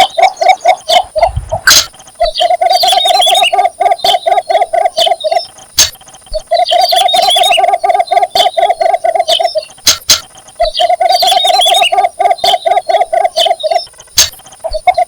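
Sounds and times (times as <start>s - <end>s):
bird clucking mating call: 0.0s - 15.0s
faint high chirps: 0.0s - 15.0s
sharp clicks: 1.6s - 7.5s, 8.1s - 15.0s.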